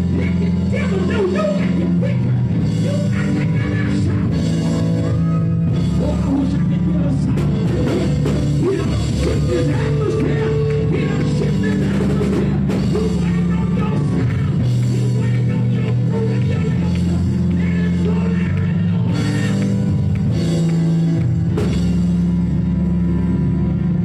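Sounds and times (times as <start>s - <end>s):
drum kit: 0.0s - 23.8s
church music chords: 0.0s - 24.0s.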